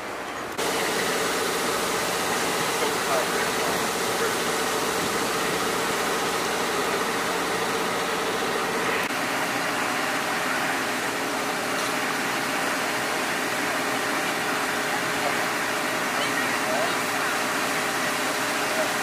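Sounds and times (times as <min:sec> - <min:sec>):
truck engine idling hum: 0:00.0 - 0:19.0.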